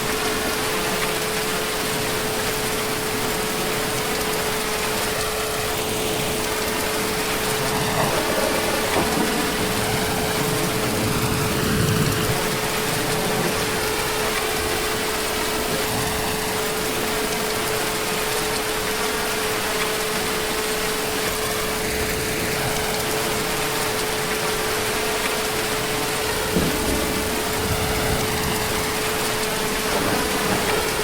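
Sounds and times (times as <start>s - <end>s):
constant hum: 0.0s - 31.0s
heavy rain falling: 0.0s - 31.0s.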